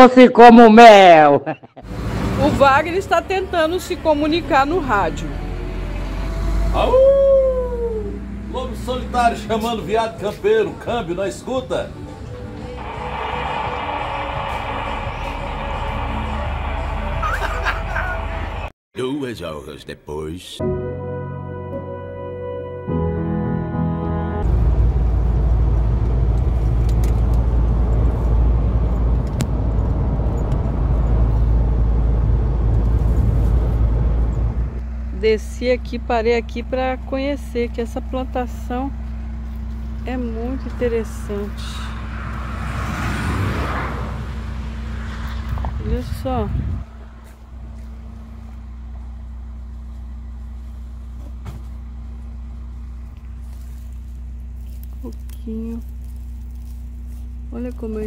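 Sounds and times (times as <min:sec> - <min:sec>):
road and wind rumble in cabin: 0:01.8 - 0:18.7, 0:24.4 - 0:58.0
engine idling: 0:02.0 - 0:18.7, 0:24.4 - 0:42.2, 0:45.4 - 0:58.0.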